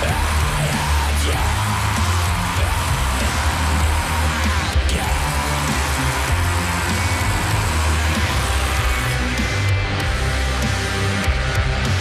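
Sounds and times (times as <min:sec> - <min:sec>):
death metal music: 0:00.0 - 0:12.0.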